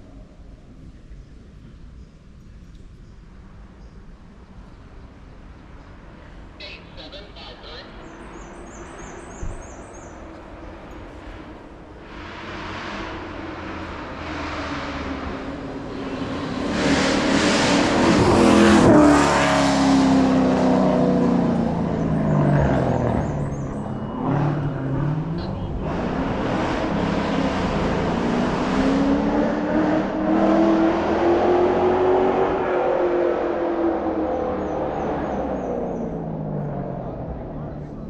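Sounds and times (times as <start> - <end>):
race car engine passing: 5.9 - 38.0.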